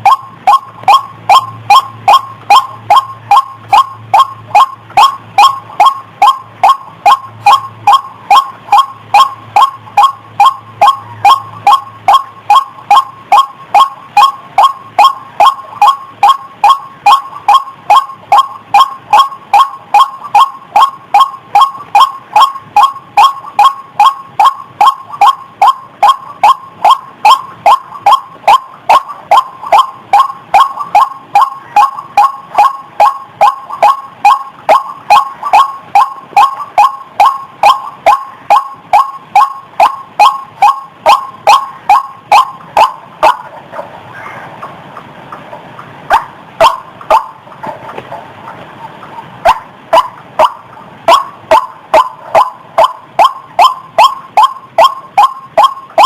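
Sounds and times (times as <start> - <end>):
waterhen calling harsh notes: 0.0 - 56.0.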